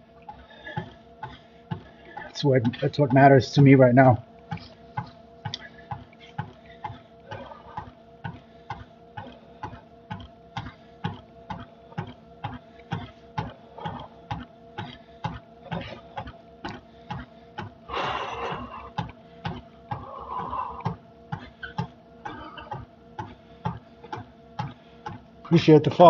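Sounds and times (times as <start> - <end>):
machine motor hum: 0.0 - 26.0
footfalls on treadmill: 0.2 - 26.0.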